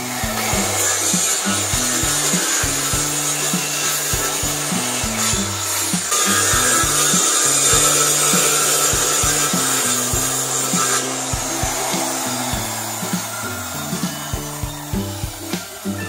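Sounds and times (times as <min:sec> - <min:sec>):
power tool cutting wood: 0:00.0 - 0:16.0.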